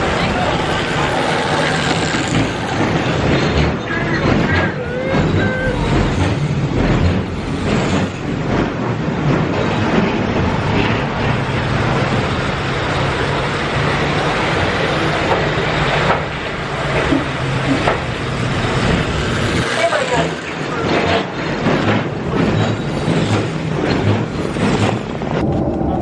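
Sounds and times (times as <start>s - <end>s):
ride cars rumbling on track: 0.0s - 26.0s.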